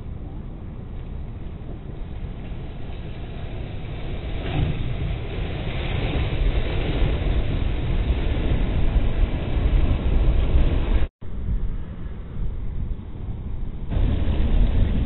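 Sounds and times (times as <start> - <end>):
heavy low rumble: 0.0 - 15.0.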